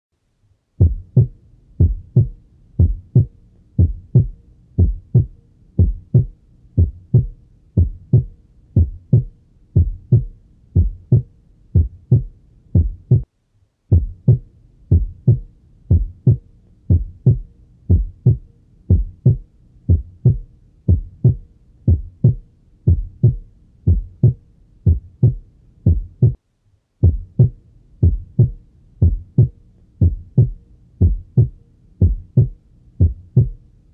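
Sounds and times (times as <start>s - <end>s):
heartbeat through stethoscope: 0.8s - 13.3s, 13.9s - 26.4s, 27.0s - 33.6s.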